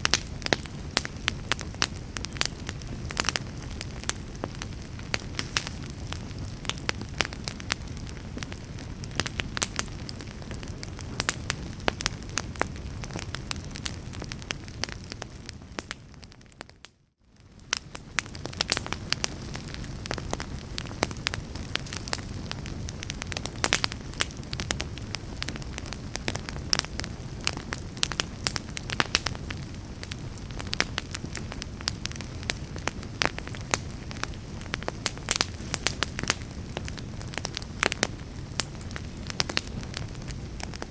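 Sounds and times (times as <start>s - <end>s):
wood pops and crackles: 0.0s - 16.8s, 17.4s - 40.9s
fire rumbling in fireplace: 0.0s - 40.9s.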